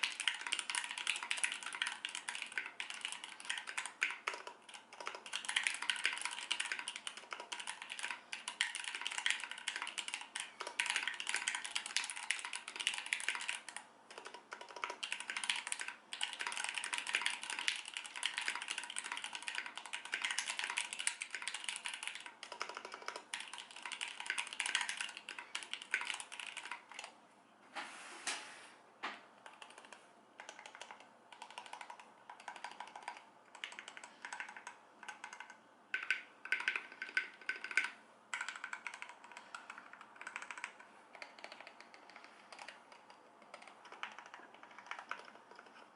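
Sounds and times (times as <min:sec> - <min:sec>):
mechanical keyboard typing: 0:00.0 - 0:27.1, 0:29.4 - 0:45.9.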